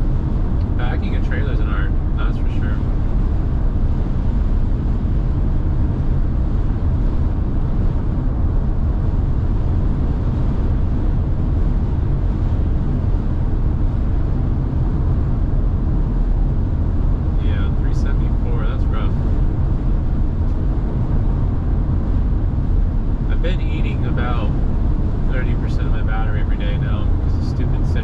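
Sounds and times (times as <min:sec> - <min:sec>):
tyre and wind noise in car: 0:00.0 - 0:28.0.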